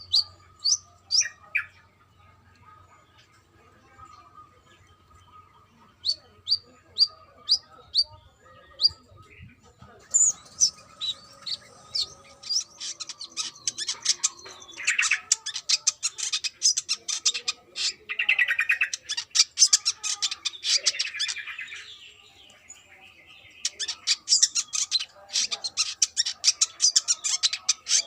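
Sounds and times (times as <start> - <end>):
bird chirping and trilling: 0.0 - 1.9, 4.0 - 28.0.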